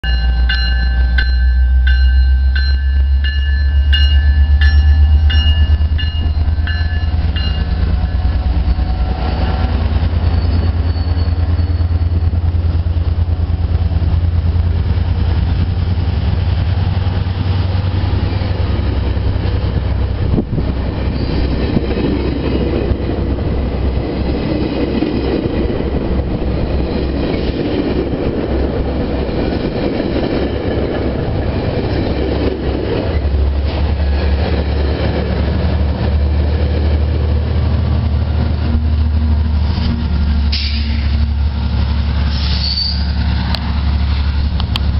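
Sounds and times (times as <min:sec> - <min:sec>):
diesel locomotive engine drone: 0:00.0 - 0:44.9
train wheels on rails: 0:00.0 - 0:44.9.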